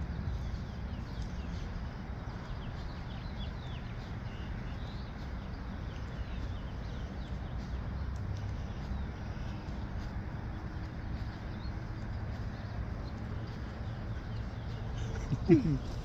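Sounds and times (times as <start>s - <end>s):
bird chirps: 0.3s - 16.0s.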